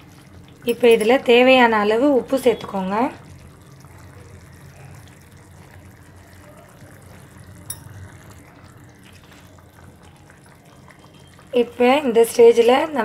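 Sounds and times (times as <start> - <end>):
gravy bubbling in a pot: 0.0 - 13.0.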